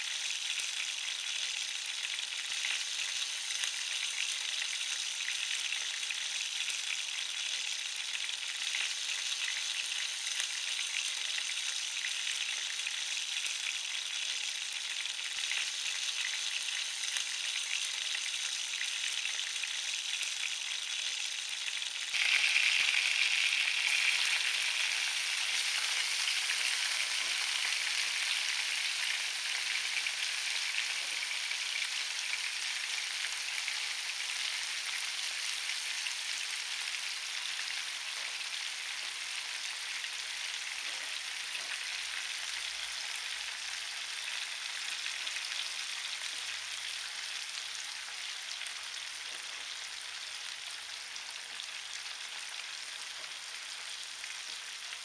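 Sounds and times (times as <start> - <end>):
onions sizzling in oil: 0.0 - 55.0
sausages sizzling in oil: 0.0 - 55.0.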